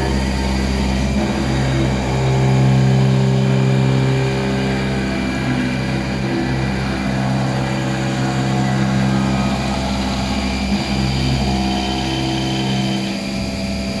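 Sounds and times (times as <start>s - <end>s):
milling machine humming: 0.0s - 14.0s.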